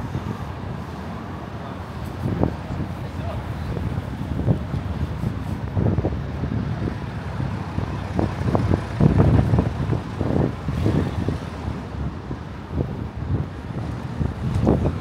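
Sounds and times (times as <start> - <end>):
passing cars rumble: 0.0 - 15.0.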